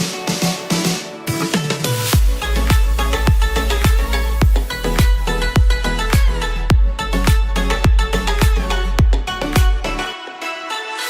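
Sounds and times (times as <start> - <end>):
electronic music with kick drum: 0.0 - 10.4.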